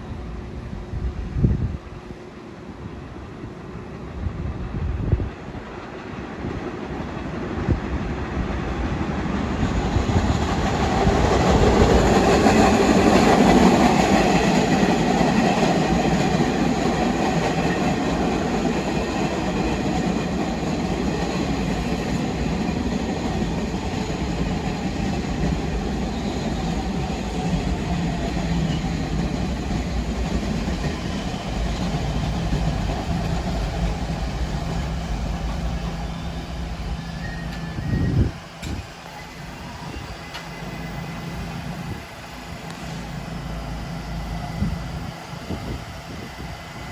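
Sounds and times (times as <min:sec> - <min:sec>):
subway train rumbling on rails: 0:00.0 - 0:46.9.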